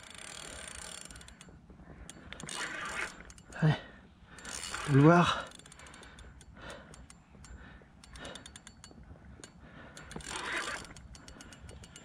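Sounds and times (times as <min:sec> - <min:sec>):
fishing reel clicking: 0:00.0 - 0:03.7, 0:04.4 - 0:12.0.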